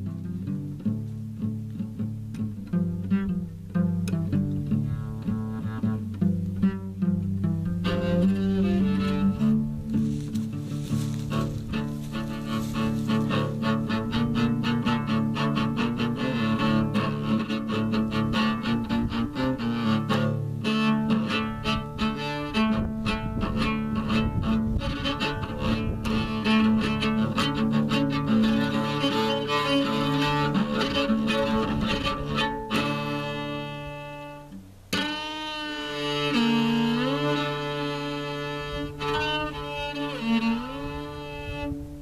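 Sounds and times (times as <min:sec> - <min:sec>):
cello playing: 0:00.0 - 0:42.0.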